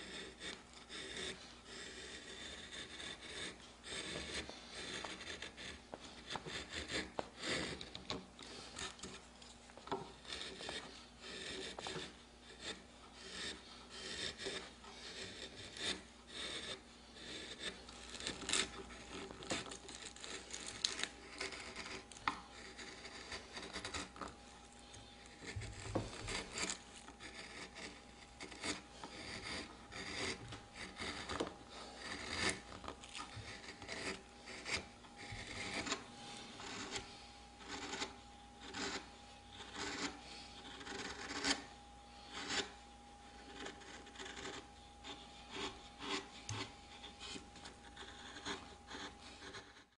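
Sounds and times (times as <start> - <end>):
gouge scraping wood: 0.0 - 50.0.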